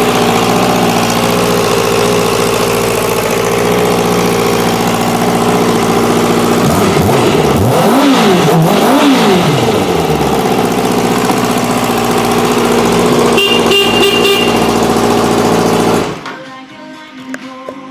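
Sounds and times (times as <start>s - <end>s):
motorcycle engine idling and revving: 0.0s - 16.5s.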